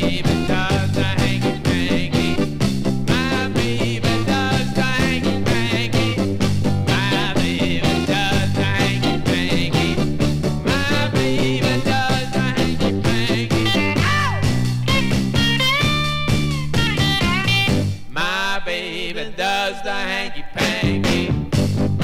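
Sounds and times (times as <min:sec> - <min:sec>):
rock and roll band playing: 0:00.0 - 0:18.1, 0:20.6 - 0:22.0.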